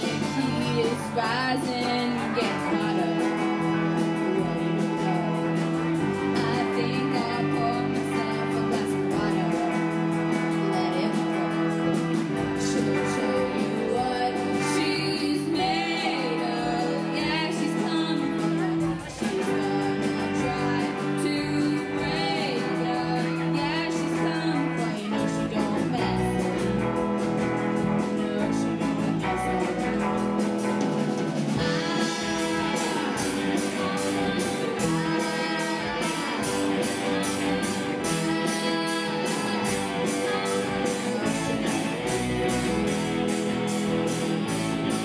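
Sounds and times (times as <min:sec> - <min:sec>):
girl singing: 0:00.0 - 0:30.2, 0:31.6 - 0:45.0
live rock band playing: 0:00.0 - 0:45.0.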